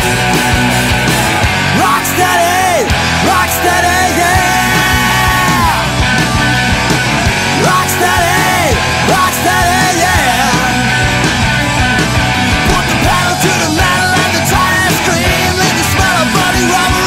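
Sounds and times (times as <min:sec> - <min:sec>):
loud rock music: 0:00.0 - 0:17.0.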